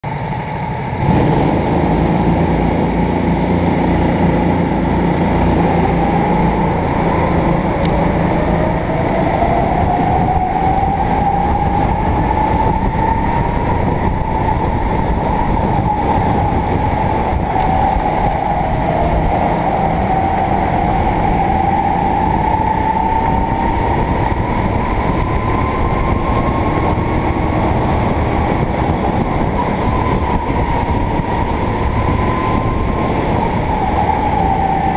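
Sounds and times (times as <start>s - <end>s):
kart engine running hard: 0.0s - 34.9s
other kart engines: 0.0s - 34.9s.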